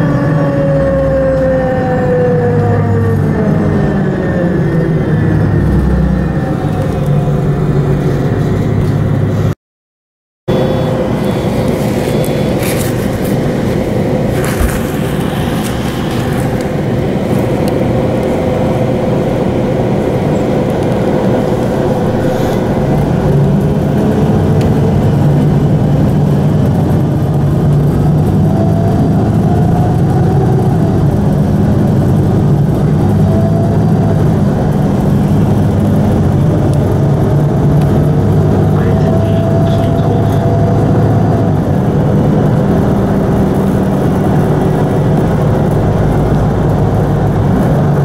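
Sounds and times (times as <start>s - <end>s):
bus engine accelerating: 0.0s - 9.6s, 10.5s - 48.0s.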